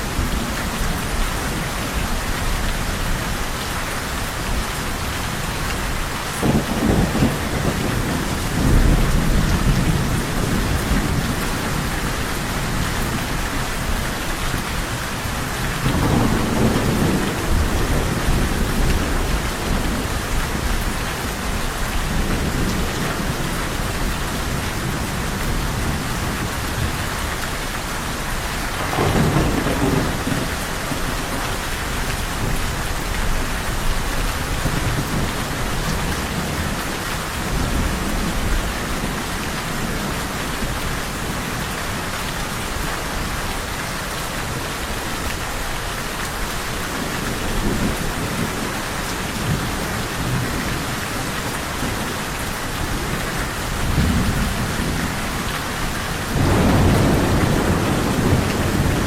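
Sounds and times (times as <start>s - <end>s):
heavy rain falling: 0.0s - 59.0s
thunder rumbling: 5.0s - 42.1s, 46.4s - 59.0s.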